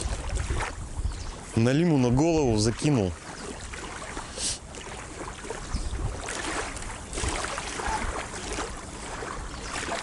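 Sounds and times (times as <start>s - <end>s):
moving water: 0.0s - 10.0s
wind on microphone: 0.0s - 10.0s.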